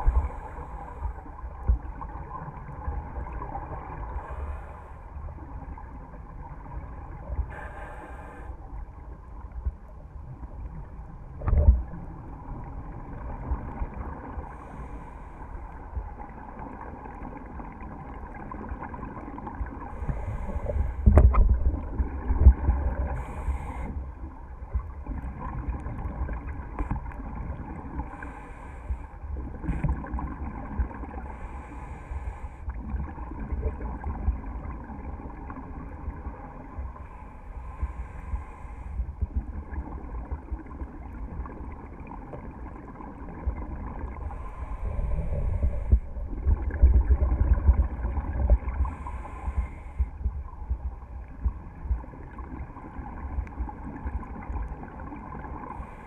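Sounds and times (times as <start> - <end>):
muffled low underwater rumble: 0.0 - 56.0.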